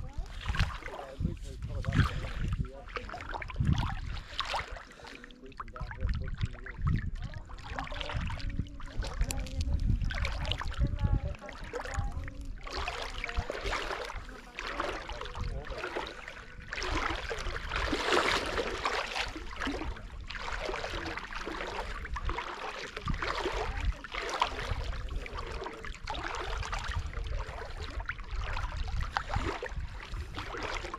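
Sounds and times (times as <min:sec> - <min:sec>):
low rumble: 0:00.0 - 0:30.9
water splashing and sloshing: 0:00.0 - 0:30.9.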